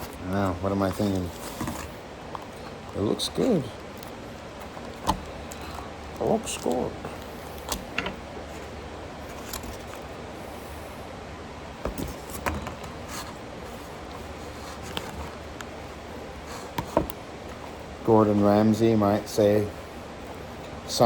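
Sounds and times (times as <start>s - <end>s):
soft handling clicks and rustles: 0.0s - 10.7s, 11.8s - 18.9s
steady low hum: 0.0s - 21.0s.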